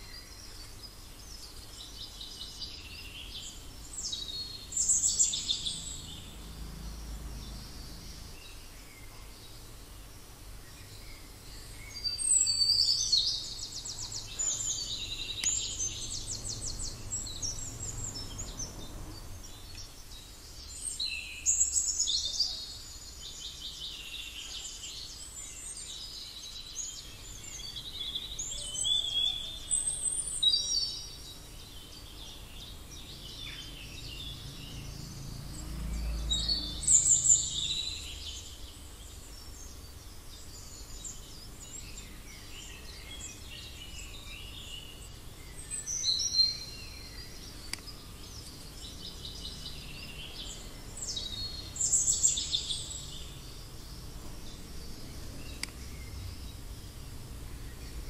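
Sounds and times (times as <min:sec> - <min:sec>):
birds trilling and chirping: 0:00.0 - 0:58.0
faint low hum: 0:00.0 - 0:58.0.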